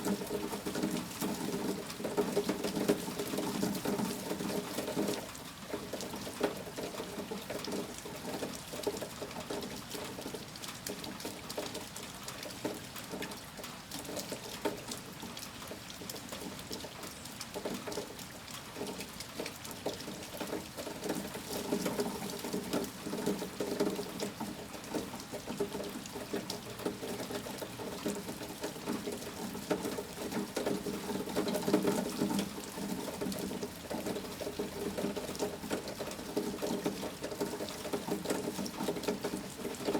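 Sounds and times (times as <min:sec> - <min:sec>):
heavy rain pattering: 0:00.0 - 0:39.9
water pouring and trickling: 0:00.0 - 0:39.9.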